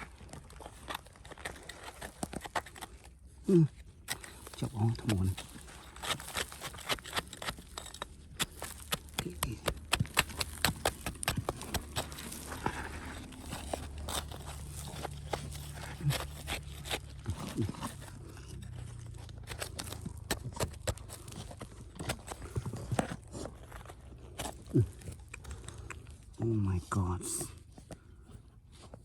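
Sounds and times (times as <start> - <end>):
rocks and gravel crunching: 0.0 - 29.0.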